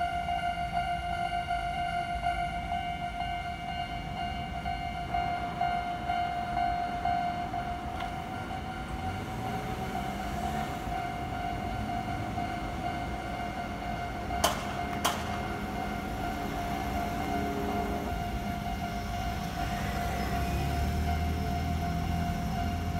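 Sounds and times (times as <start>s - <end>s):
level crossing warning bell: 0.0s - 22.9s.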